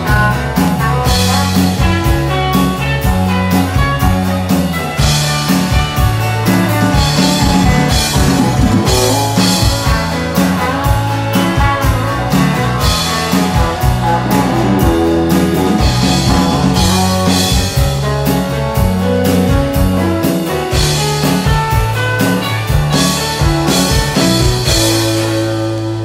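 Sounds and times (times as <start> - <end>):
rock band playing: 0.0 - 26.0.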